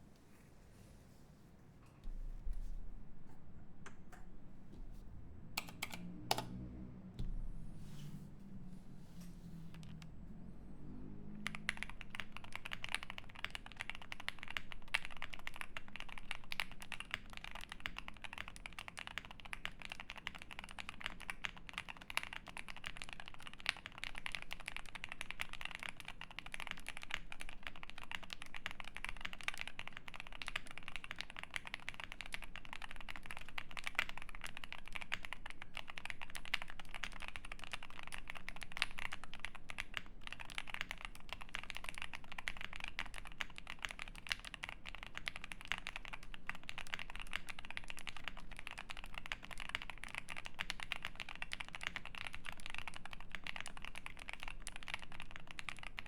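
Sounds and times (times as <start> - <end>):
fast mechanical keyboard typing: 5.6 - 6.6, 11.3 - 56.0.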